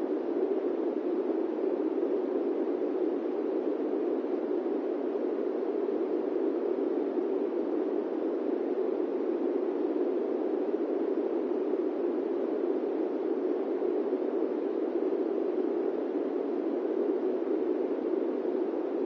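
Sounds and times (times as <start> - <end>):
airplane cabin white noise: 0.0 - 19.0.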